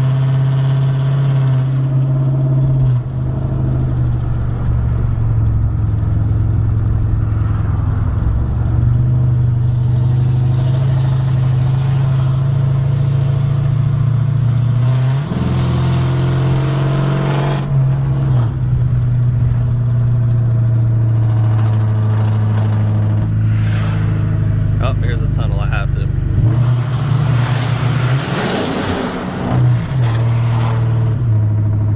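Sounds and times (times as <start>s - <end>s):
car engine droning while driving: 0.0s - 31.9s.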